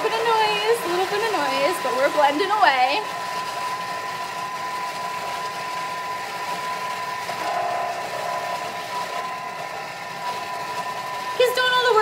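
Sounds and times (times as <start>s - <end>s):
food processor motor whine: 0.0s - 12.0s.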